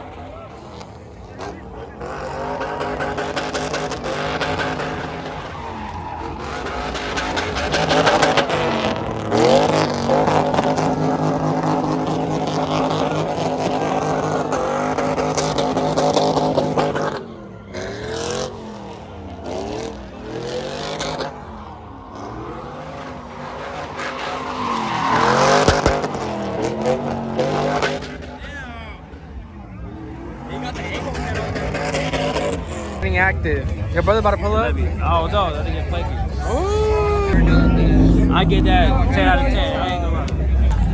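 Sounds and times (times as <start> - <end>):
tire noise: 0.0 - 40.9
truck engine revving: 0.0 - 40.9.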